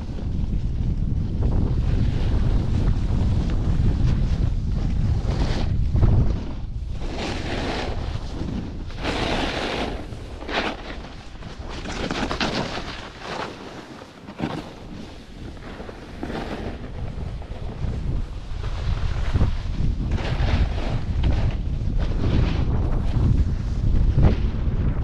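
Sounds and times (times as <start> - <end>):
snowboard scraping on snow: 0.0 - 25.0
wind rumble on microphone: 0.0 - 25.0.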